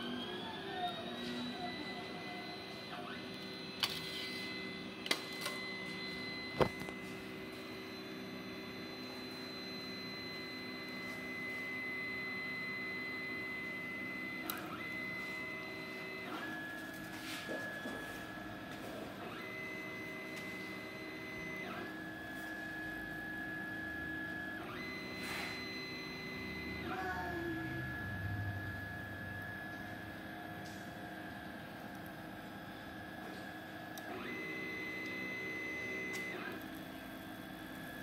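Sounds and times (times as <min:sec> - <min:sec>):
stepper motors whining: 0:00.0 - 0:38.0.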